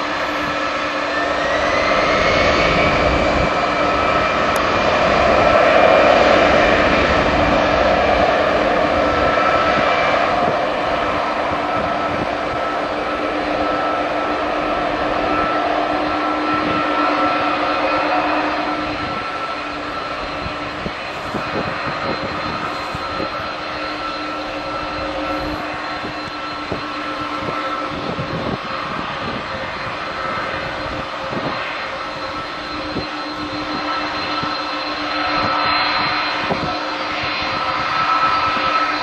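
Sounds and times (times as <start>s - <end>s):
jet engines rumbling: 0.0s - 39.0s
whining engine tones: 0.0s - 39.0s.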